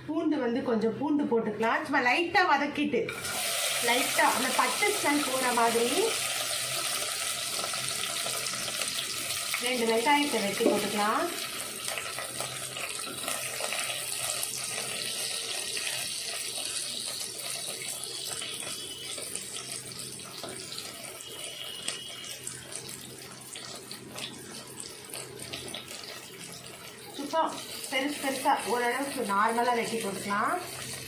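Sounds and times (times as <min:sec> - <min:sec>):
onions sizzling in hot oil: 0:03.1 - 0:31.0.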